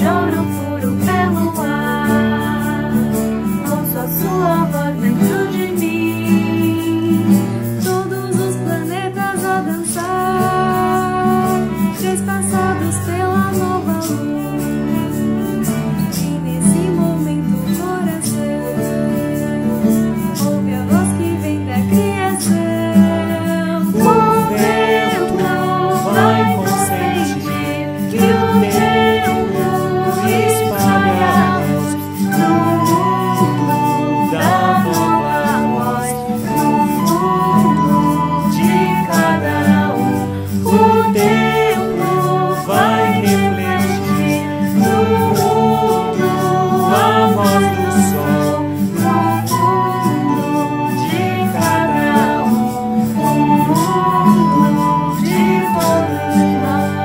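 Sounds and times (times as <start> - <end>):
acoustic ensemble playing gentle song: 0.0 - 57.0
people singing: 0.0 - 57.0.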